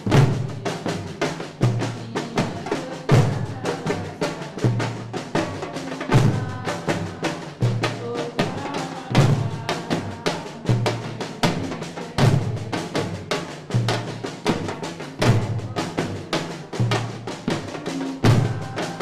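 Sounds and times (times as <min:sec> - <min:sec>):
sharp drum strokes: 0:00.0 - 0:19.0.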